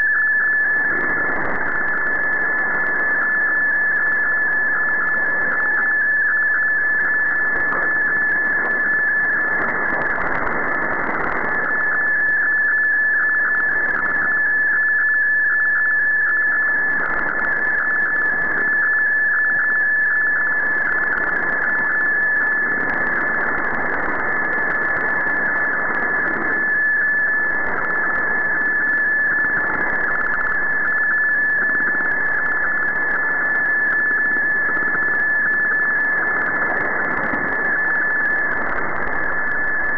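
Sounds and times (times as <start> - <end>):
steady high radio whistle: 0.0 - 39.9.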